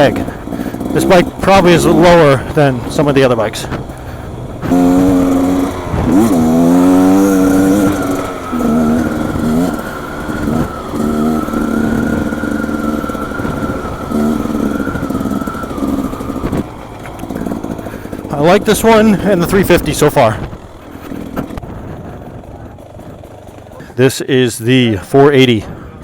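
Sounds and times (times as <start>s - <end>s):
steady high whine: 0.0s - 21.6s
dirt bike engine revving: 0.0s - 25.8s.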